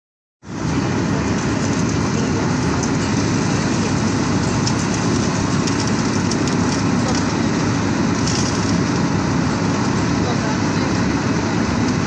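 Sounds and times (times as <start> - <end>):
milling machine grinding asphalt: 0.5 - 12.0.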